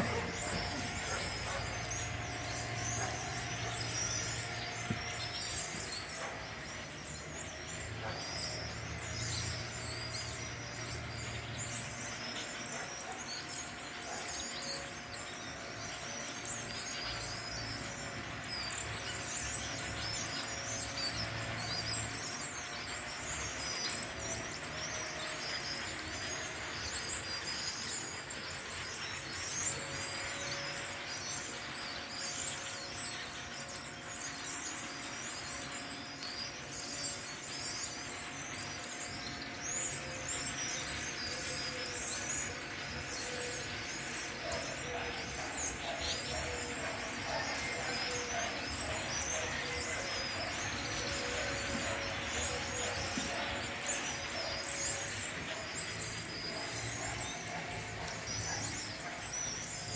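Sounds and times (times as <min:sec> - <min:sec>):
flock of birds chattering: 0:00.0 - 0:59.9.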